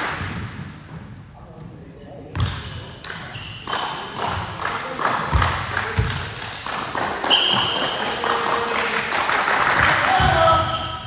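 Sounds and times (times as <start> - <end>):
echoing voices: 1.4 - 11.0.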